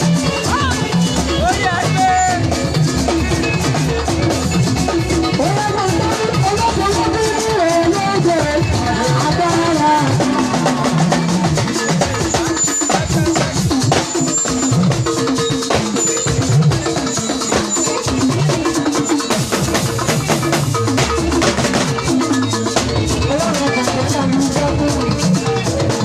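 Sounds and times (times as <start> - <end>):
drum kit steady beat: 0.0 - 26.0
gospel band playing live: 0.0 - 26.0.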